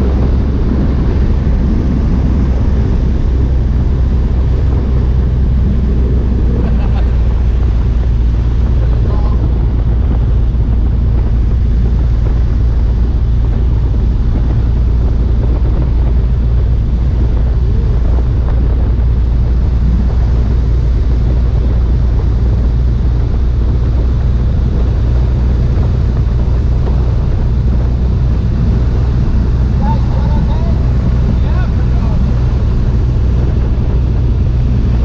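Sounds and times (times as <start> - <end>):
airplane engine and propeller drone: 0.0 - 35.0
wind rushing over microphone: 0.0 - 35.0.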